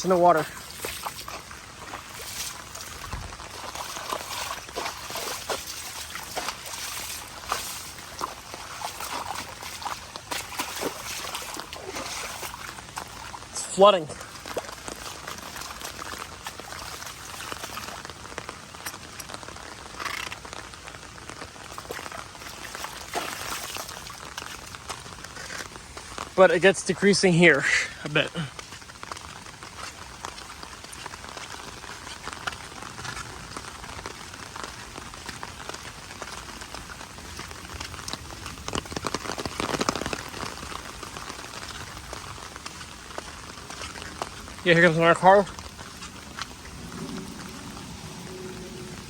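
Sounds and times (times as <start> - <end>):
rain falling: 0.0 - 49.0
raindrops ticking: 0.0 - 49.0.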